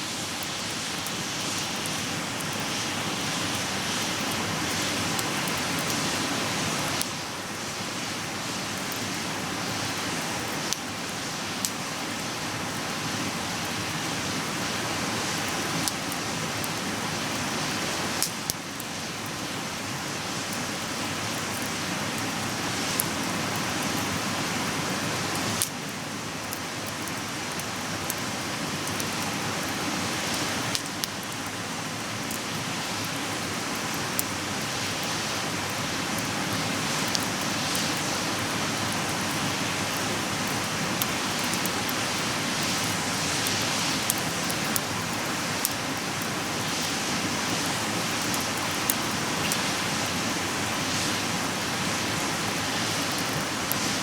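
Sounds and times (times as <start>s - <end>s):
wood fire hissing: 0.0s - 54.0s
fire crackling and popping: 0.1s - 54.0s.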